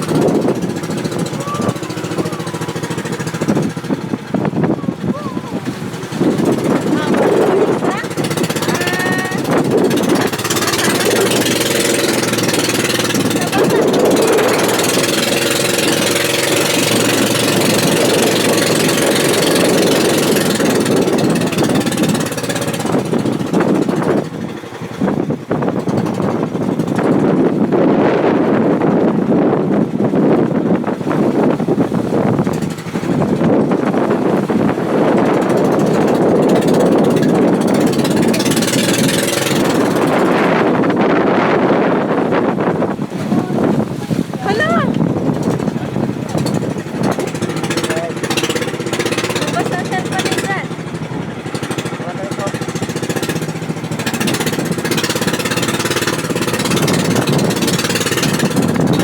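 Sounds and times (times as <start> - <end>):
engine running with even pulsing: 0.0 - 59.0
wind buffeting microphone: 0.0 - 59.0.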